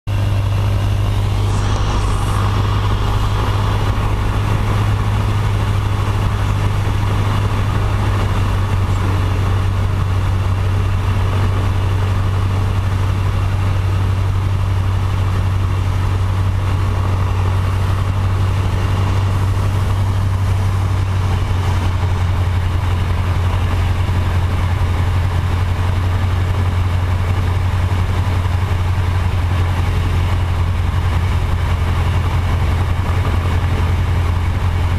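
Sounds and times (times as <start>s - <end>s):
small aircraft engine droning: 0.1s - 34.9s.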